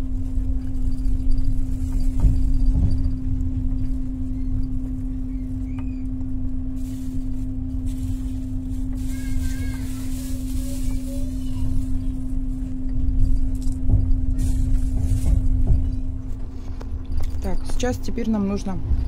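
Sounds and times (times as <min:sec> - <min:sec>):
steady low hum: 0:00.0 - 0:19.0
train rumble: 0:00.0 - 0:19.0.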